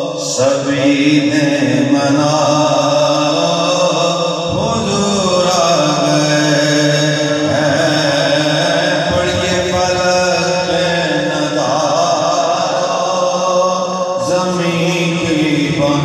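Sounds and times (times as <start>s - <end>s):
men chanting devotional poem: 0.0s - 16.0s.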